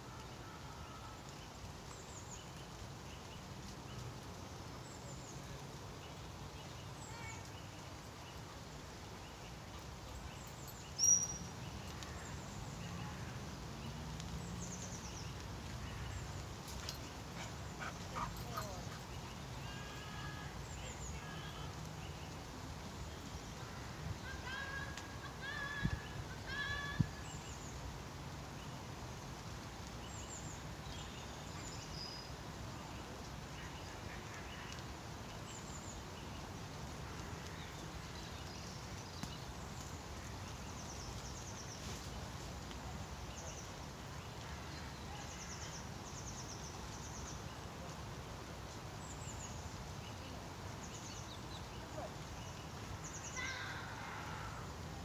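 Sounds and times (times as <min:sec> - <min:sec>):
light rain over pond: 0:00.0 - 0:55.0
small birds chirping: 0:00.1 - 0:55.0.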